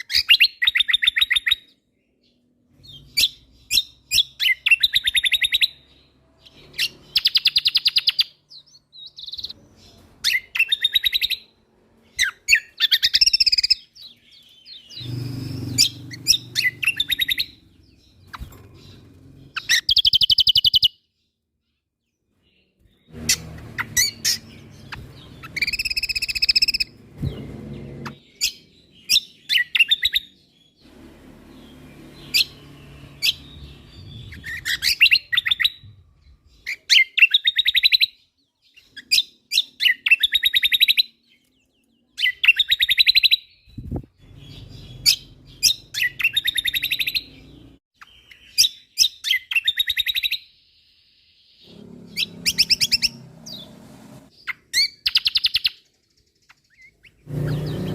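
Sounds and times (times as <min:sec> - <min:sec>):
songbird trilling and chirping: 0:00.0 - 0:30.8, 0:31.5 - 0:53.7, 0:54.3 - 0:57.9.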